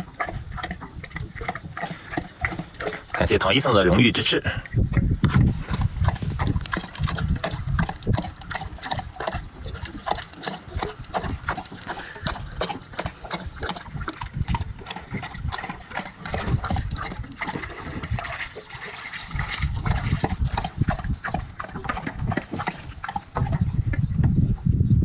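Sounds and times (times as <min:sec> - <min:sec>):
animals splashing in water: 0:00.0 - 0:04.6, 0:05.3 - 0:24.4.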